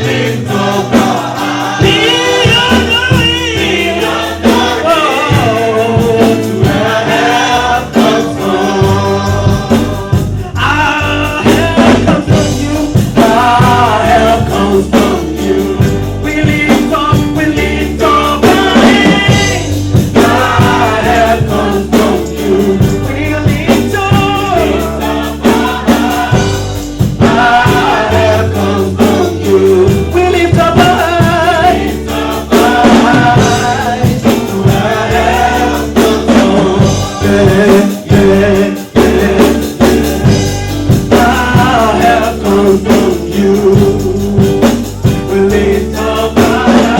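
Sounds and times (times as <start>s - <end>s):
group singing gospel song: 0.0s - 46.9s
instrumental accompaniment: 0.0s - 46.9s.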